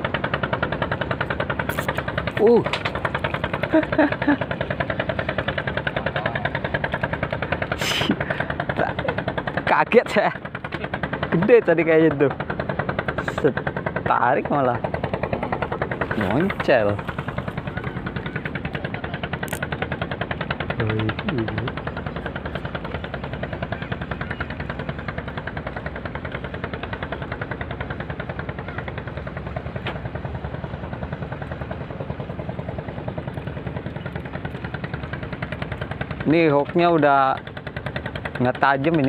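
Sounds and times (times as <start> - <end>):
engine chugging: 0.0 - 39.0.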